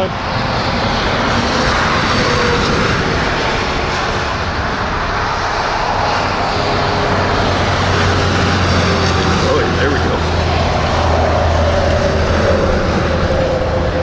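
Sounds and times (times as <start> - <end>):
car passing close: 0.0 - 14.0
road traffic roar: 0.0 - 14.0.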